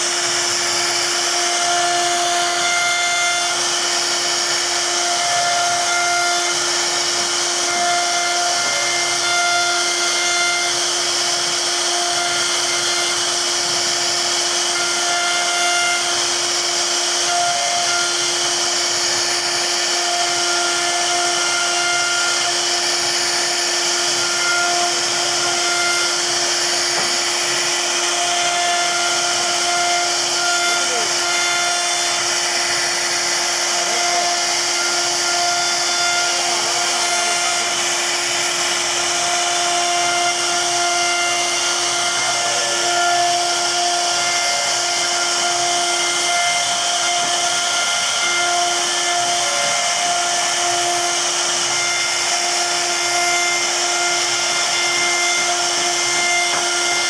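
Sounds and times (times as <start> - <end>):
router spindle whining: 0.0 - 57.0.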